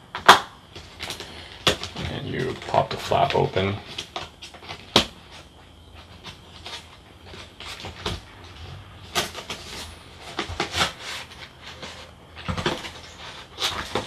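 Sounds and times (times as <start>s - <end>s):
cardboard scraping and rustling: 0.8s - 14.0s.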